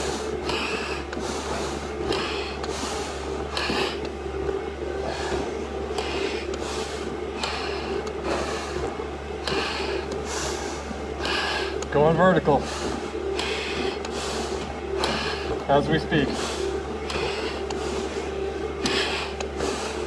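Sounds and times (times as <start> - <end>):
heavy breathing through face mask: 0.0 - 11.9, 12.6 - 20.0
low hum: 0.0 - 20.0.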